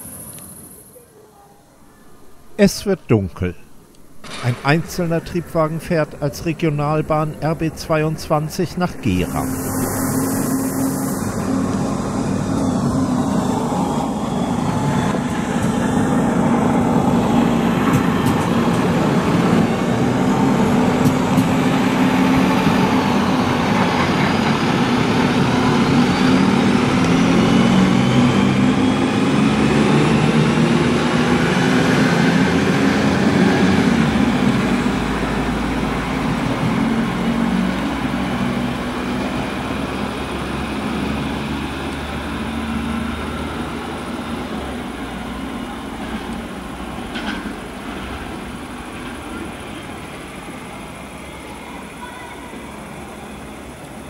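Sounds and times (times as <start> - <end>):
diesel railcar engine passing: 4.0 - 54.0.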